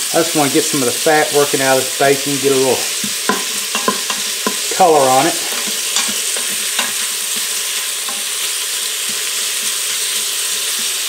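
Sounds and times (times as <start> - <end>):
bacon and onion sizzling: 0.0 - 11.0.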